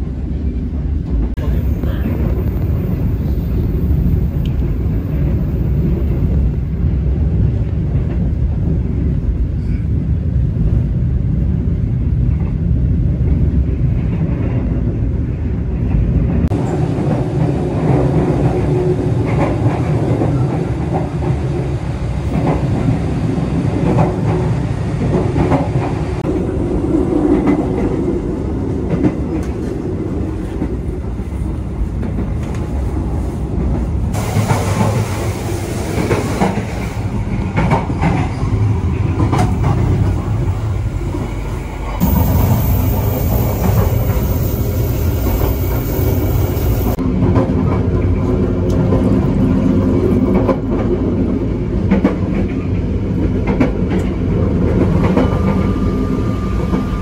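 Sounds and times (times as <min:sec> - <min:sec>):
train carriage rumble: 0:00.0 - 0:57.0.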